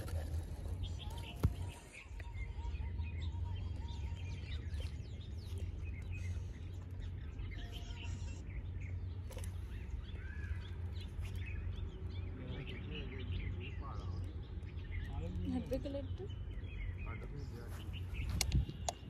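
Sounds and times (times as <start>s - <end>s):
small birds chirping: 0.0s - 19.0s
steady low rumble: 0.0s - 19.0s.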